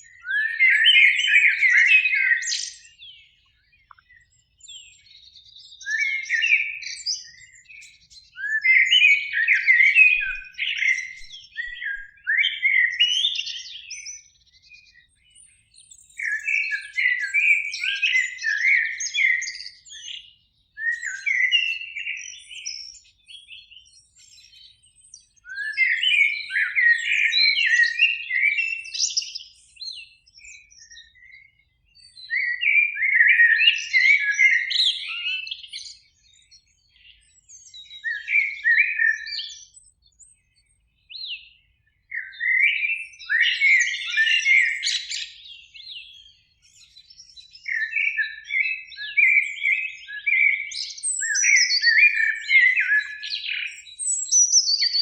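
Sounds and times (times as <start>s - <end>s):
blackbird singing: 0.0s - 55.0s.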